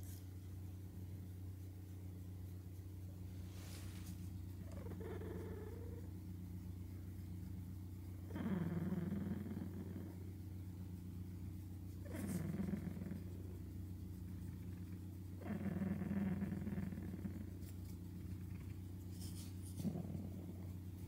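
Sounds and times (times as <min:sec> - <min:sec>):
cat purring: 0:02.4 - 0:21.0.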